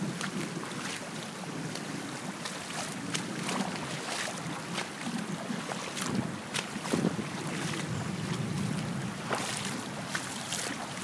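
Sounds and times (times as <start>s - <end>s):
floodwater rushing: 0.0s - 11.0s
wind buffeting microphone: 0.0s - 11.0s.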